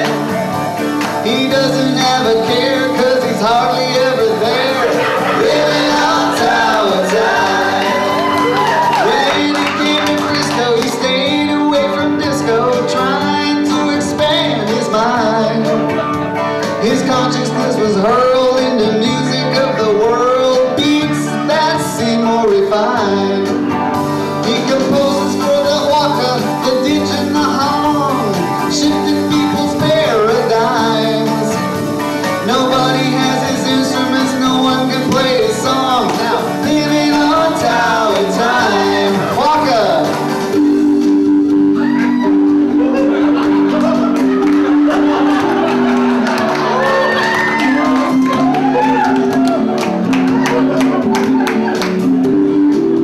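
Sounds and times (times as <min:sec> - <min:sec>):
electric guitar: 0:00.0 - 0:53.0
live band playing: 0:00.0 - 0:53.0
person singing: 0:00.0 - 0:53.0.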